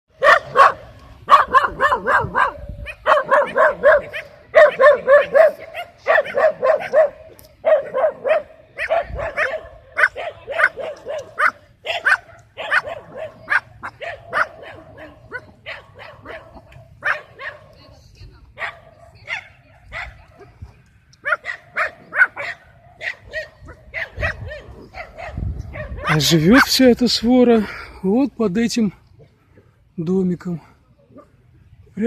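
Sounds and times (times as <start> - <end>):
dogs barking: 0.1 - 18.0, 18.6 - 26.8.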